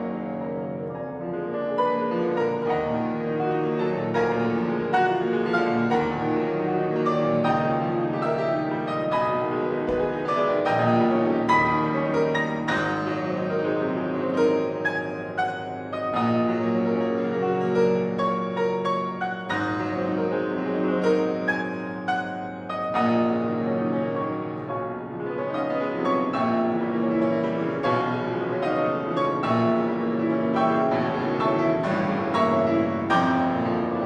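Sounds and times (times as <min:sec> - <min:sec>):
solo classical piano: 0:00.0 - 0:34.0.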